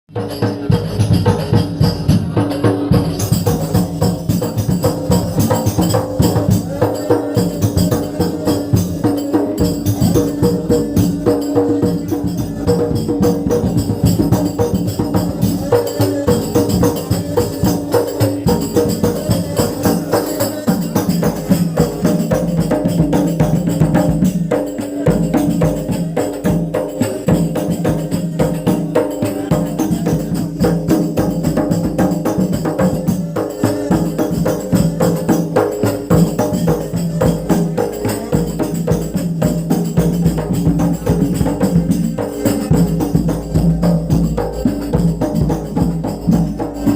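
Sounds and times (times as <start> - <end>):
frame drums beating: 0.1 - 46.9
tambourine jingles: 0.2 - 46.9.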